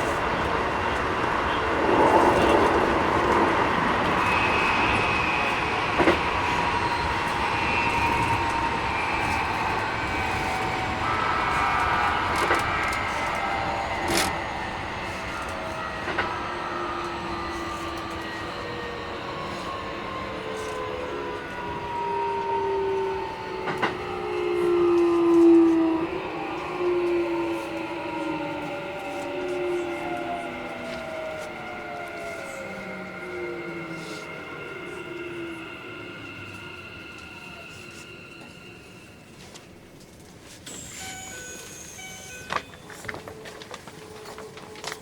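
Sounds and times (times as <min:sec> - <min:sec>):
electric train motor whine: 0:00.0 - 0:45.0
train running rumble: 0:00.0 - 0:45.0.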